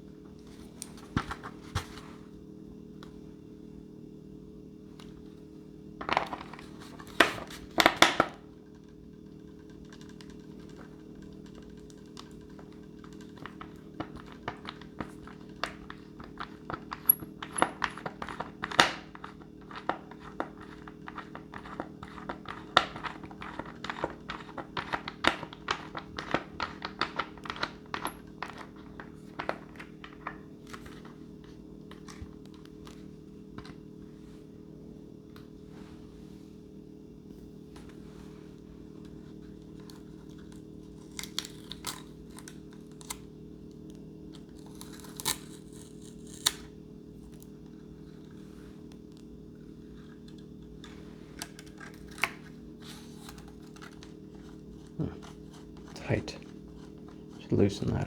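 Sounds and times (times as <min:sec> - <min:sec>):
steady hum: 0:00.0 - 0:58.0.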